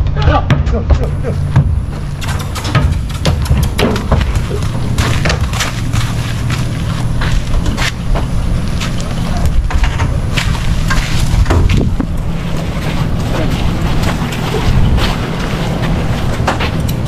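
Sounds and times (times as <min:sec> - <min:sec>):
horse hooves on gravel: 0:01.1 - 0:17.0
wind rumble on microphone: 0:01.6 - 0:17.0.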